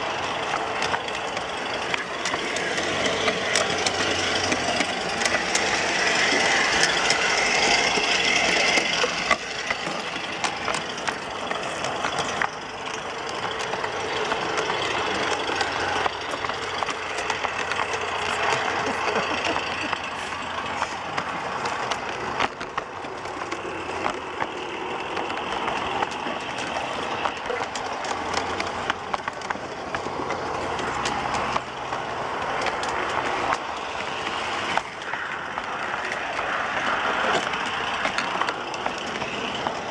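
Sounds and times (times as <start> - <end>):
clicks on railway track: 0.0 - 39.9
small electric drive running: 0.0 - 39.9.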